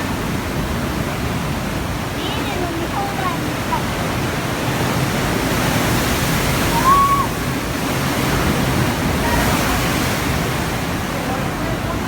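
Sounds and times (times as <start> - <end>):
surf roaring: 0.0 - 12.0.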